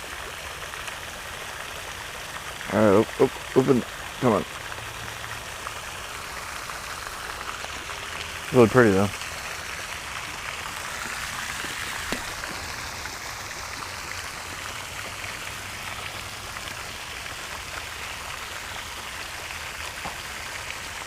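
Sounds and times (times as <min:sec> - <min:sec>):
running water hiss: 0:00.0 - 0:21.0.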